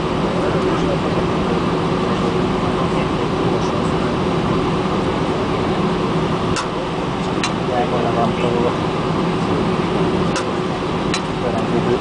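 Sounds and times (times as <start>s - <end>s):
jet engines humming: 0.0s - 12.0s.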